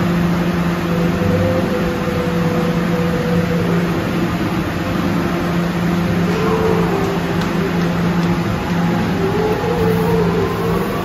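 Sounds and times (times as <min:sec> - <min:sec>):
subway car equipment humming: 0:00.0 - 0:11.0.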